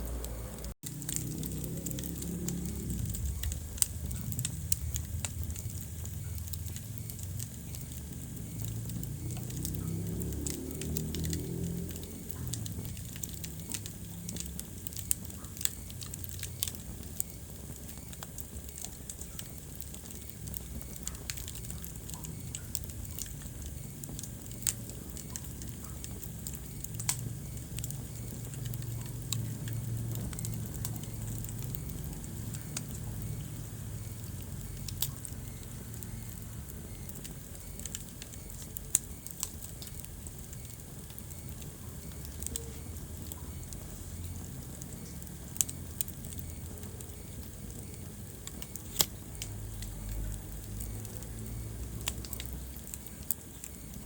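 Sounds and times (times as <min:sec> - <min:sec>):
wood fire burning: 0:00.0 - 0:54.0.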